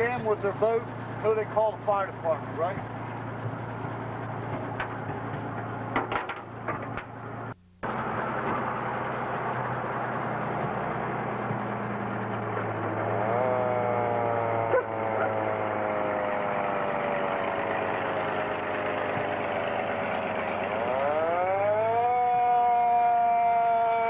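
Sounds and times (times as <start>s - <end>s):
fire engine low hum: 0.0s - 24.0s.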